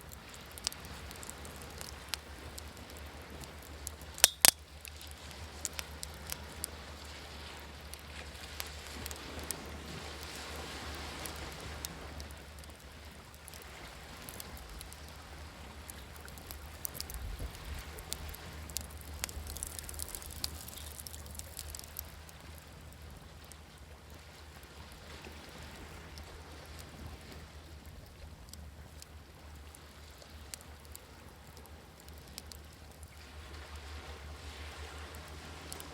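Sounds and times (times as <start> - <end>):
campfire crackling and popping: 0.0 - 33.9, 34.6 - 35.9
sea waves washing: 0.0 - 35.9.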